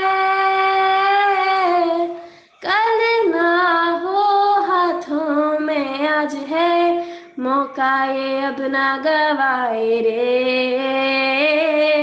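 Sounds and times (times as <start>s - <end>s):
young woman singing unaccompanied: 0.0s - 12.0s.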